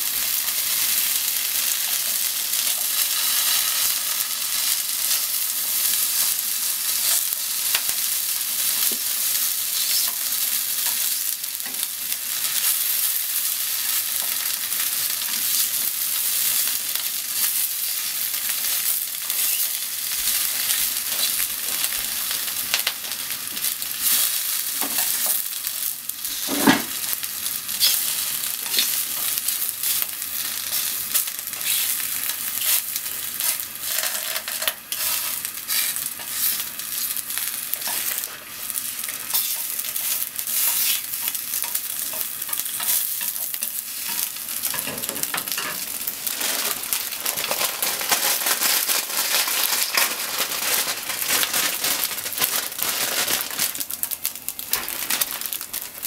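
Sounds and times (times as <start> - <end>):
ham sizzling in a frying pan: 0.0 - 56.0.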